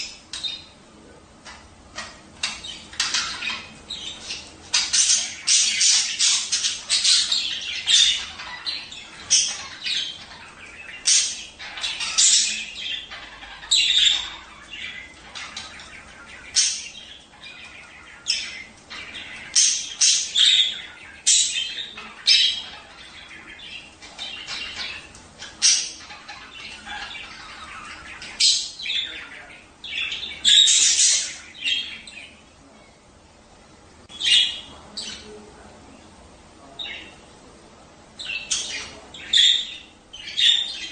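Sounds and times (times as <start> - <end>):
budgerigars chirping and squawking: 0.0 - 33.0, 34.0 - 35.9, 36.6 - 37.3, 38.1 - 40.9.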